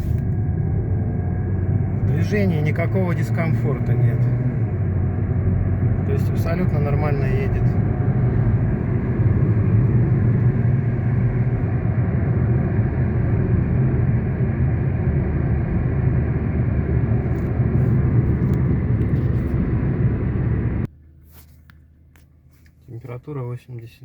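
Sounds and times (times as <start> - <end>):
car engine rumble inside cabin: 0.0 - 20.9
road noise: 0.0 - 22.9.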